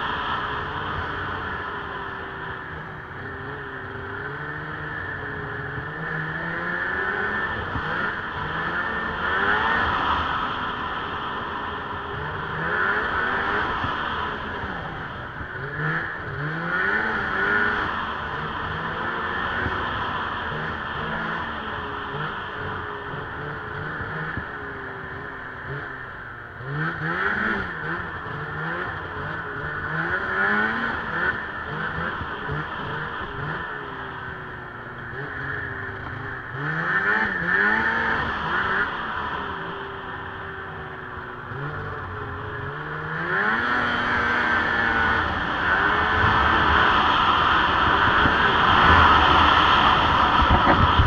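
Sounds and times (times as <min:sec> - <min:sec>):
snowmobile engine revving: 0:00.0 - 0:51.0
steady rushing noise: 0:00.0 - 0:51.0.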